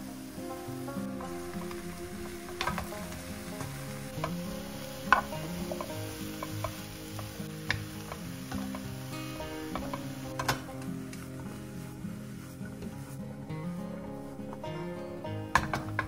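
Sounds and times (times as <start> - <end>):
eggplant sizzling in frying pan: 0.0 - 13.1.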